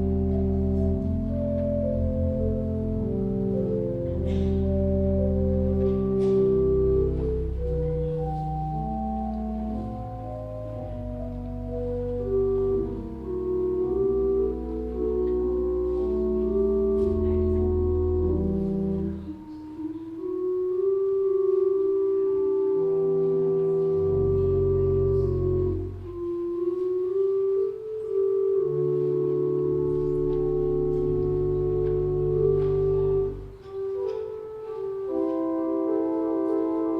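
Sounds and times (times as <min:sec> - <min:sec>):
organ playing chords: 0:00.0 - 0:36.9.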